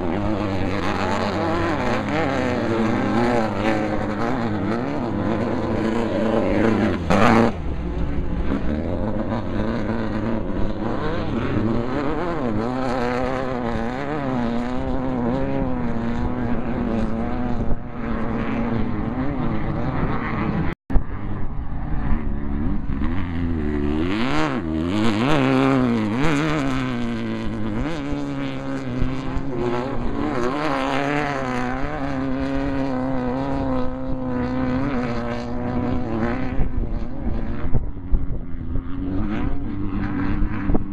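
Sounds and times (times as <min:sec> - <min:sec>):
race vehicle engines revving: 0:00.0 - 0:40.9.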